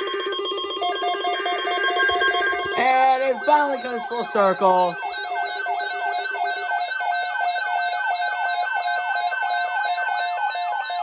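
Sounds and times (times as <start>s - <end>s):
alarm radios chirping and warbling: 0.0s - 11.0s
steady alarm tone: 0.0s - 11.0s.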